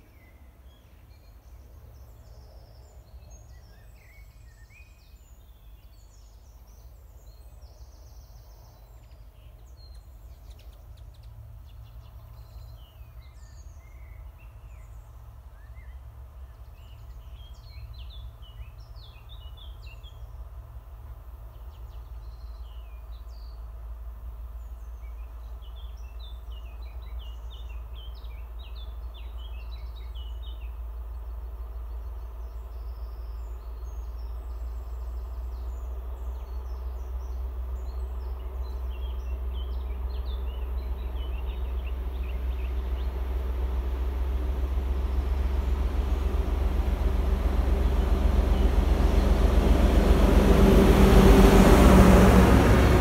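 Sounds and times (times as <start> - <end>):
songbirds chirping: 0.0 - 53.0
distant train rumbling: 10.0 - 53.0.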